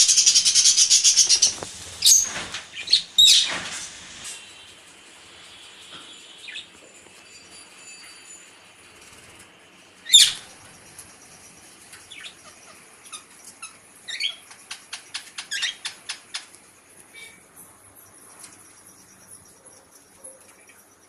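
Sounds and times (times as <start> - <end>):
birds chirping: 0.0 - 6.8, 9.8 - 21.0.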